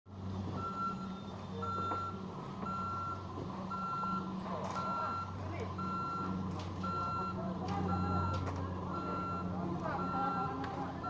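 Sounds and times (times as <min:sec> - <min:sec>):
low engine hum: 0:00.1 - 0:11.0
reversing alarm beeping: 0:00.5 - 0:11.0.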